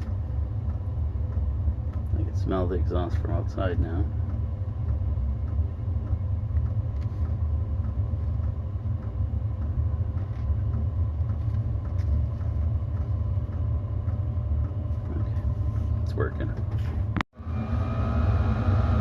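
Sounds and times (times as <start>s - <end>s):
fuel pump ticking: 0.0s - 17.2s
heater low rumble: 0.0s - 19.0s.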